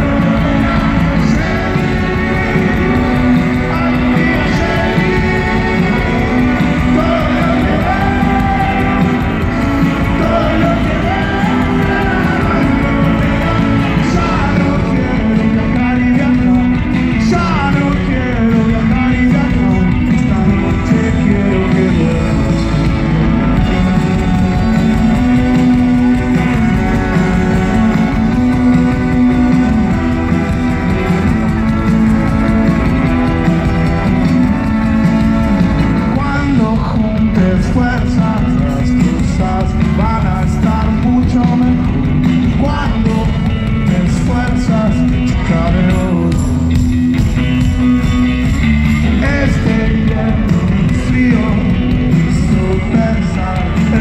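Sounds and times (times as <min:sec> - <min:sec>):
live rock band through loudspeakers: 0:00.0 - 0:54.0.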